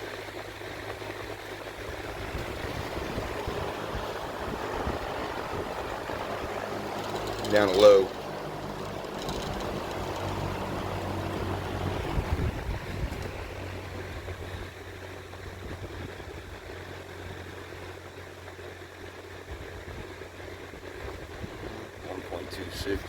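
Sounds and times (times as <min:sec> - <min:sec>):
box fan whirring: 0:00.0 - 0:23.0
fan motor hum: 0:00.0 - 0:23.0.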